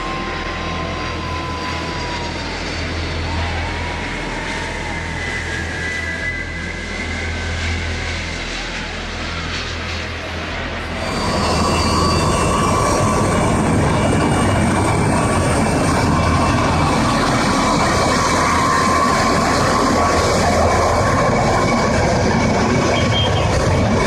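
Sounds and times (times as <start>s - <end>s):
jet engines roaring with high whine: 0.0s - 24.0s.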